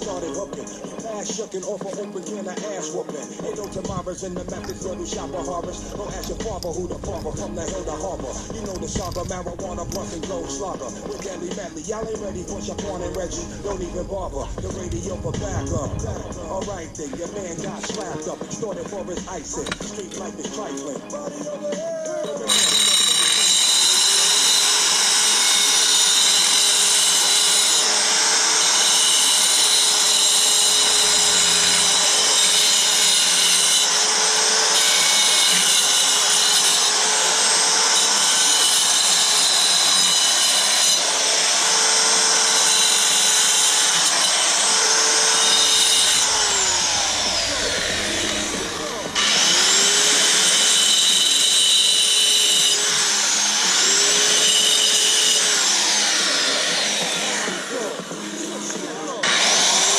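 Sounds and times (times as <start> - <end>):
power tool motor running: 3.2 - 20.8, 22.3 - 59.9.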